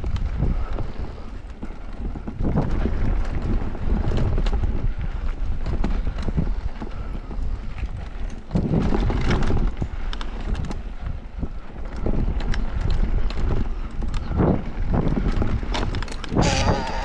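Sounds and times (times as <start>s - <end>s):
mountain bike rattling over trail: 0.0s - 17.0s
wind buffeting microphone: 0.0s - 17.0s.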